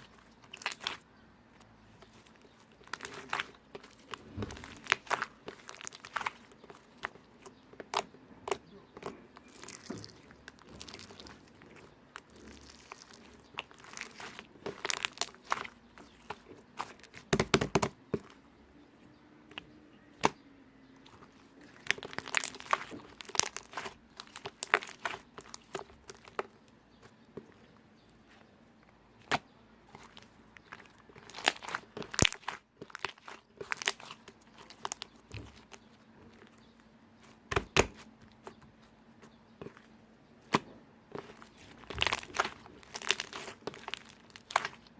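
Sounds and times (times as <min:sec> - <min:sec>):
slime squished by hand: 0:00.0 - 0:01.1, 0:02.0 - 0:18.4, 0:19.1 - 0:28.5, 0:29.2 - 0:38.6, 0:39.4 - 0:44.9.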